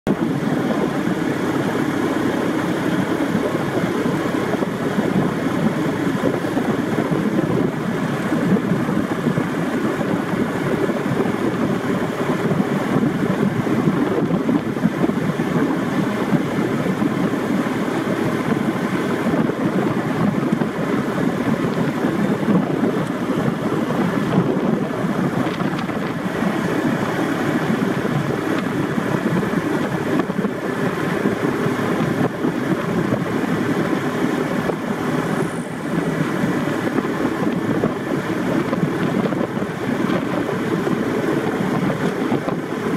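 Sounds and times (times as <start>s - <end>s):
road noise: 0.0s - 42.9s
vehicle engine: 0.0s - 42.9s
wind buffeting microphone: 0.1s - 42.9s.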